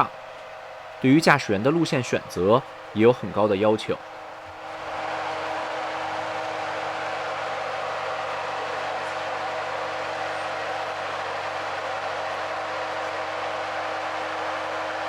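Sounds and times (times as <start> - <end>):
steady whine: 0.0 - 15.0.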